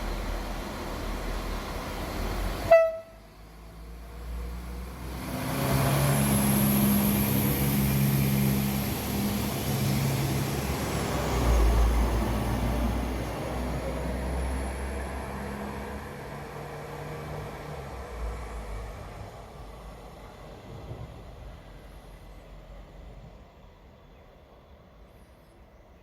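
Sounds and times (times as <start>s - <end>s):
train engine hum: 0.0s - 26.0s.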